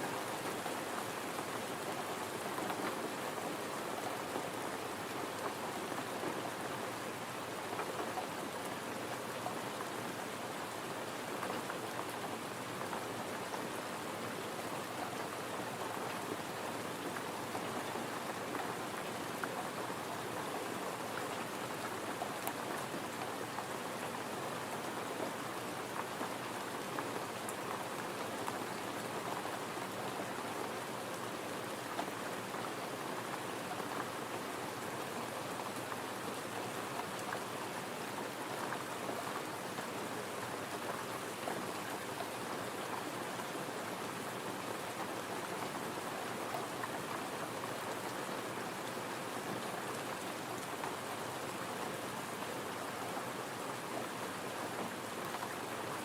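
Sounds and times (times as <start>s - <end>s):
gentle rain falling: 0.0s - 56.0s.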